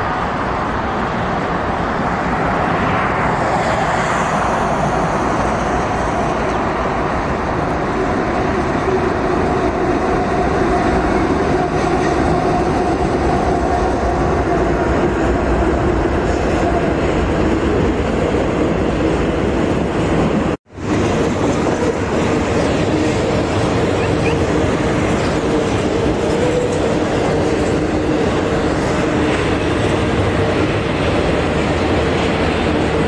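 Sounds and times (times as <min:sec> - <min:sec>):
diesel locomotive engines rumbling: 0:00.0 - 0:33.0
freight cars rolling past: 0:00.0 - 0:33.0
steel wheels on rail: 0:00.0 - 0:33.0.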